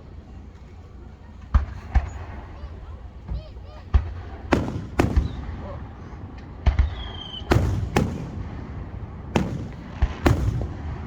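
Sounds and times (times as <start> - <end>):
fireworks shells booming: 1.4 - 11.0.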